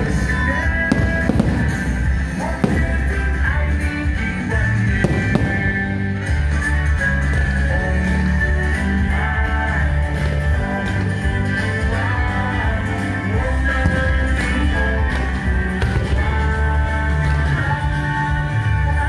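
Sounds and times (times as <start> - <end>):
loud music with heavy bass: 0.0 - 19.0.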